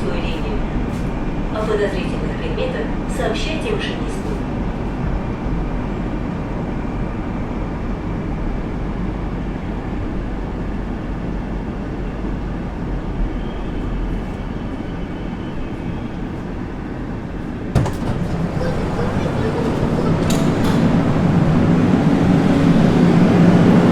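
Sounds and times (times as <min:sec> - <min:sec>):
train car rumble and hum: 0:00.0 - 0:23.9.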